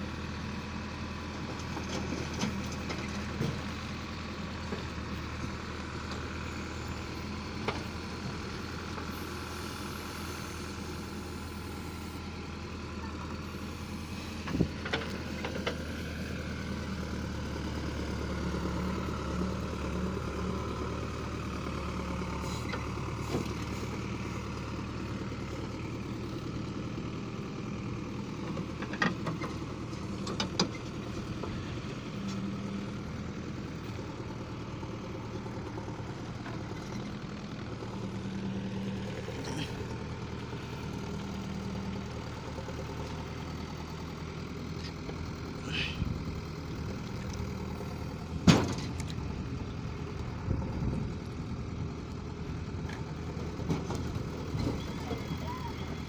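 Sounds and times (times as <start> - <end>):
diesel engine running: 0.0 - 56.0
backhoe digging soil: 1.3 - 12.2, 13.0 - 49.6.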